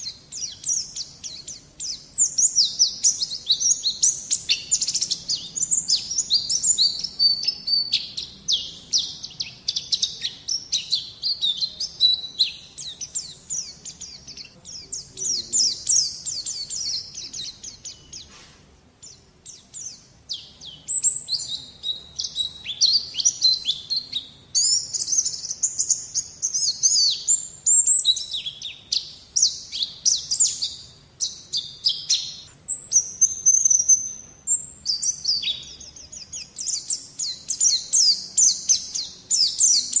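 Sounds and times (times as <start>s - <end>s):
birds twittering song: 0.0s - 40.0s.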